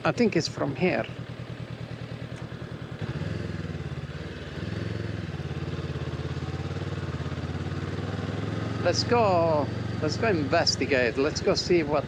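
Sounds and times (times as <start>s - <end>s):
motorcycle engine at low speed: 0.0s - 12.0s.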